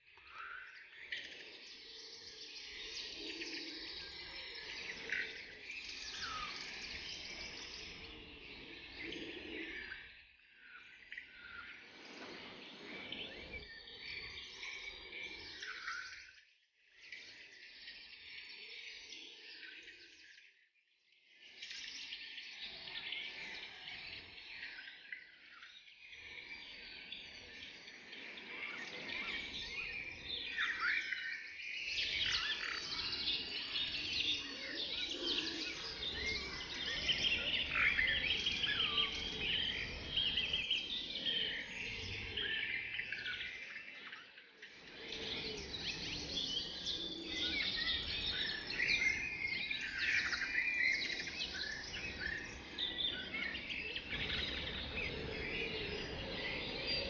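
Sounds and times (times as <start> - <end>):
forest birds chirping and trilling: 0.0 - 57.0.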